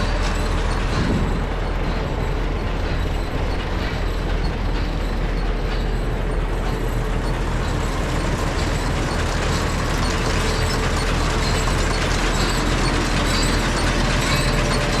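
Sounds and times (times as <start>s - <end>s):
faint machinery ticking: 0.0s - 15.0s
tractor engine running: 0.0s - 15.0s.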